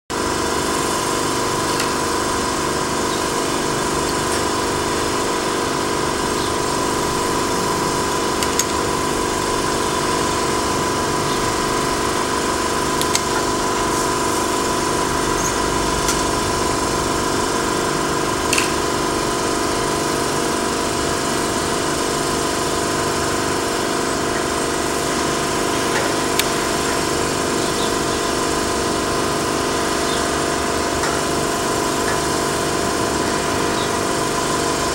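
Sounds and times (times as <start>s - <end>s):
high machine whine: 0.1s - 34.9s
industrial machinery drone: 0.1s - 34.9s.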